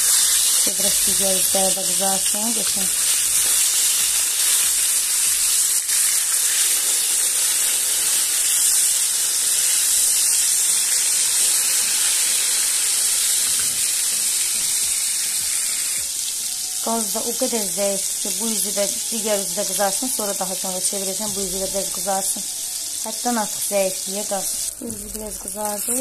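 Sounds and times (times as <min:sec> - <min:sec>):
fish frying in hot oil: 0:00.0 - 0:26.0.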